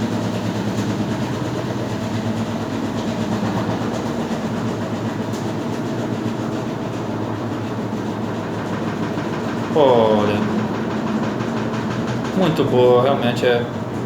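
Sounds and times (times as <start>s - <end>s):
fast rattle: 0.0s - 14.0s
washing machine humming: 0.0s - 14.0s.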